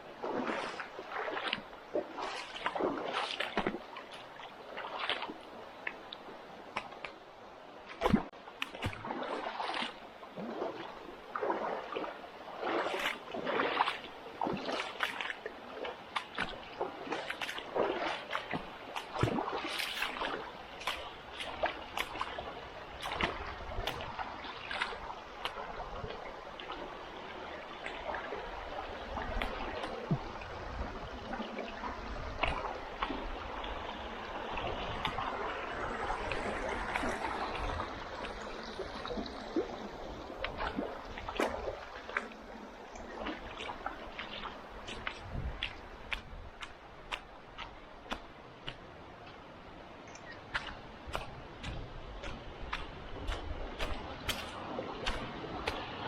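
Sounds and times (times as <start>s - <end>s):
river water running: 0.0s - 56.0s
splashes from wading steps: 0.0s - 56.0s.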